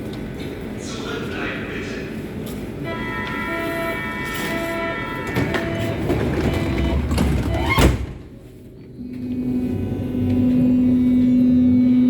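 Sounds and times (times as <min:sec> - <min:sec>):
train low hum: 0:00.0 - 0:12.0
train rumbling: 0:00.0 - 0:12.0.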